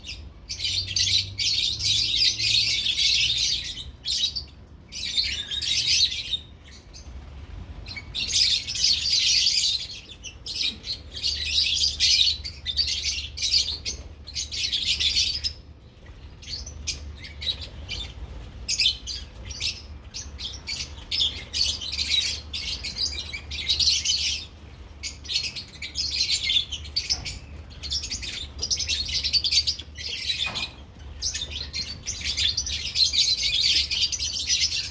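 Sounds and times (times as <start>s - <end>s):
lovebirds chattering and chirping: 0.0s - 34.9s.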